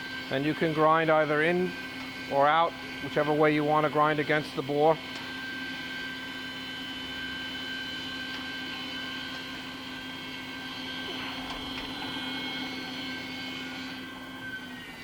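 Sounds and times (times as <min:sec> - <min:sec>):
grinder whine over hum: 0:00.0 - 0:15.0.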